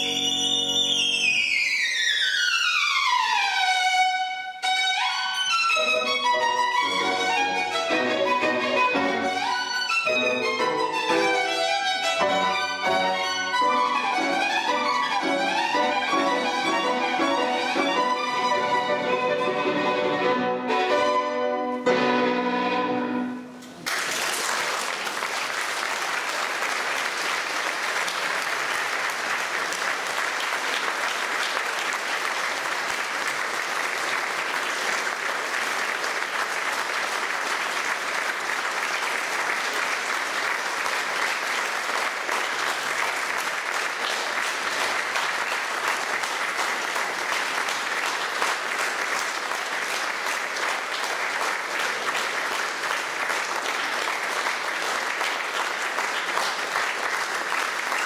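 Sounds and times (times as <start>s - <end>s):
audience applauding: 5.1s - 19.5s, 23.6s - 58.0s.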